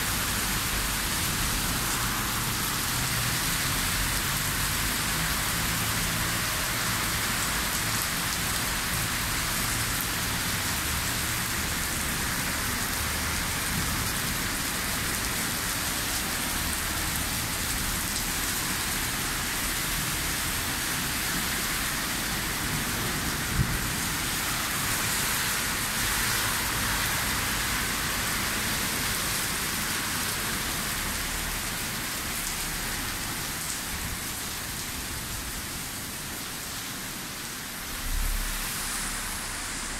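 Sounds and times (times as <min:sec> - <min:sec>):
heavy rain on a wet street: 0:00.0 - 0:39.9.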